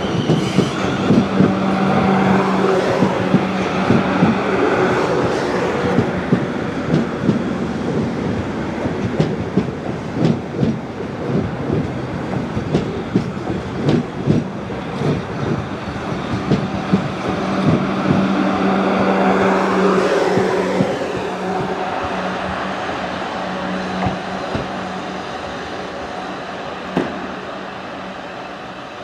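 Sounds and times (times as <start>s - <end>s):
steady low train hum: 0.0s - 29.0s.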